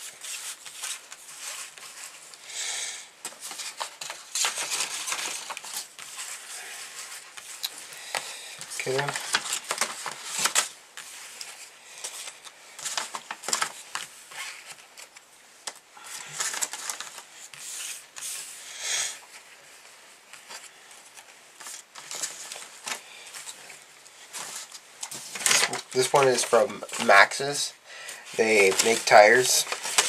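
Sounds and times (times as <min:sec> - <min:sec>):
paper rustling and crinkling: 0:00.0 - 0:02.4, 0:03.2 - 0:18.6, 0:19.2 - 0:30.0.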